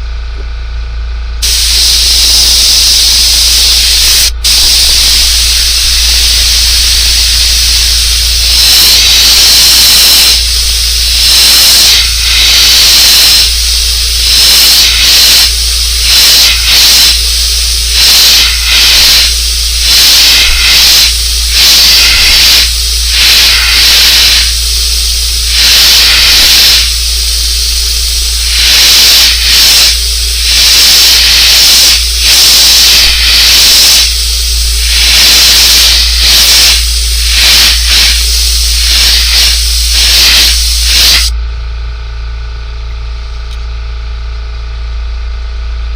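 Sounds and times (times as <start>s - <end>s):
airbrush spraying bursts: 1.4s - 41.3s.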